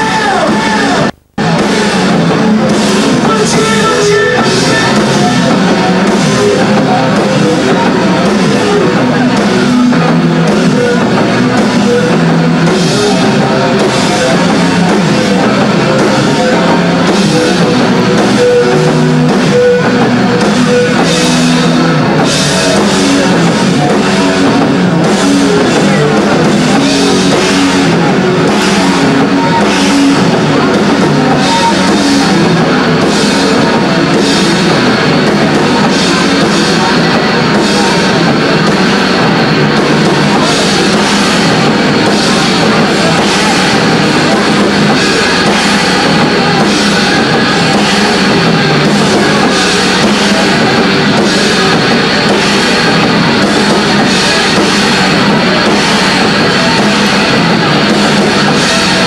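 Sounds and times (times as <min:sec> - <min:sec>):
cymbals hit in steady beat: 0:00.0 - 0:59.0
rock band playing live: 0:00.0 - 0:59.0.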